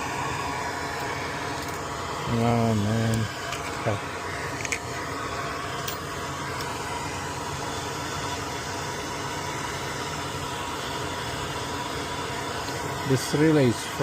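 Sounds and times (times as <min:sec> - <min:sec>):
blower motor hissing: 0:00.0 - 0:14.0.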